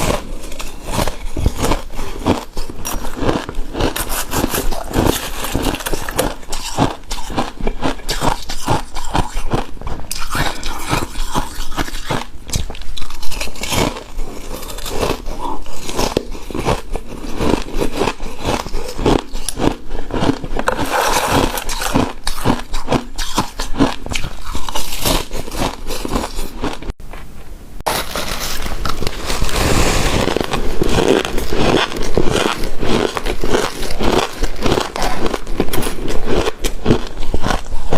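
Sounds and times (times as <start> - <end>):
crunching and chewing shaved ice: 0.0 - 27.0, 27.9 - 37.9.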